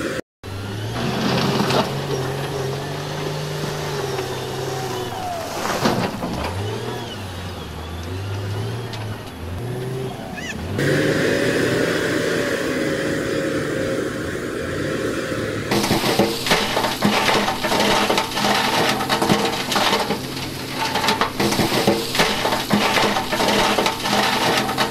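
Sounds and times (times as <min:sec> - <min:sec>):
dump truck diesel engine: 0:00.0 - 0:24.9
wheel loader diesel engine: 0:00.0 - 0:24.9.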